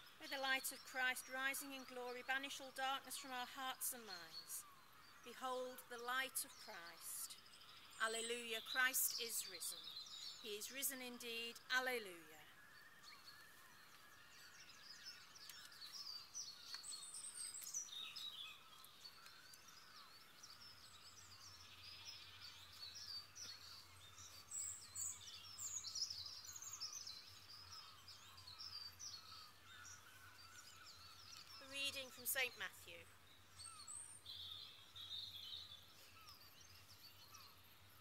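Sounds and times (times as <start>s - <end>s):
faint birdsong chorus: 0.0s - 38.0s.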